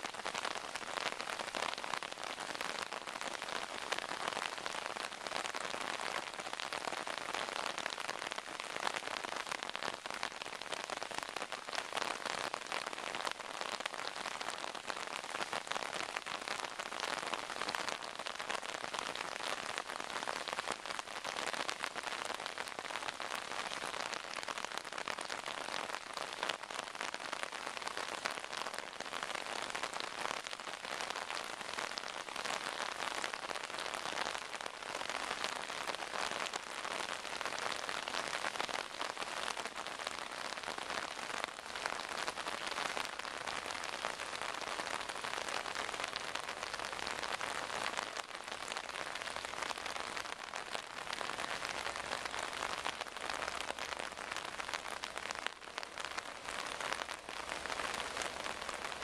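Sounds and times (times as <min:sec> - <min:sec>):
torrential rain falling: 0:00.0 - 0:59.0.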